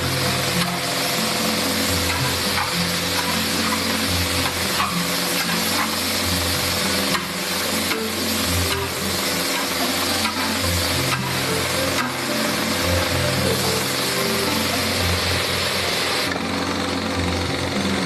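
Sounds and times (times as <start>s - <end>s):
food sizzling in a wok: 0.0s - 16.3s.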